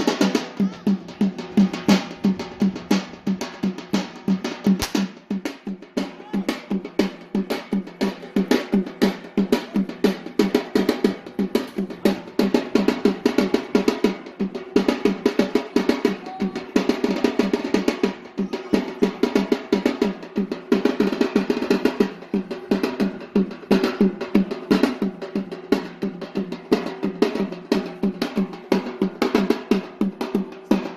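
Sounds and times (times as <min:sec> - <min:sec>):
drums beating fast rhythm: 0:00.0 - 0:30.9.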